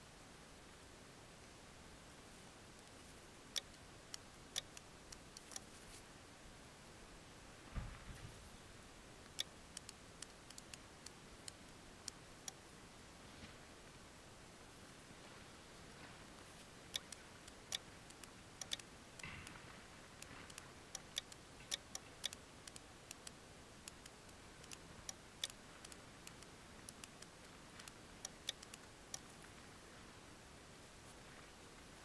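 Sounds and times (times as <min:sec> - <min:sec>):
soft rustle: 0:00.7 - 0:06.5, 0:07.4 - 0:23.3, 0:23.9 - 0:32.0.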